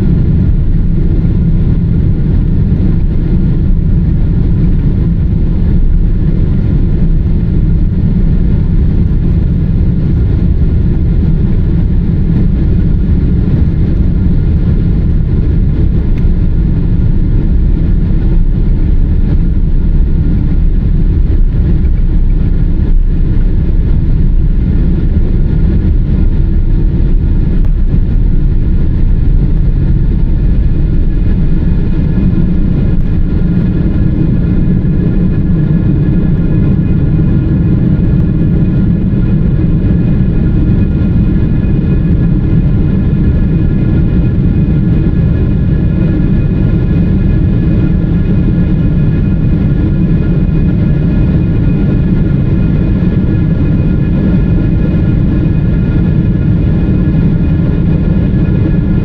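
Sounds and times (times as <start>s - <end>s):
airliner cabin airflow and engine rush: 0.0s - 59.0s.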